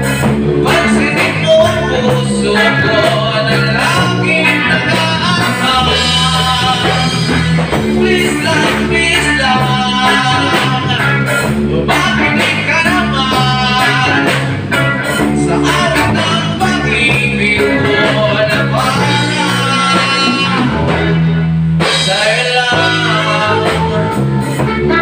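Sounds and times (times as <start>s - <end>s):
drum kit: 0.0s - 25.0s
electric guitars: 0.0s - 25.0s
live rock band playing: 0.0s - 25.0s
pulsing bass line: 0.0s - 25.0s
man singing into microphone: 0.6s - 21.1s, 21.9s - 25.0s.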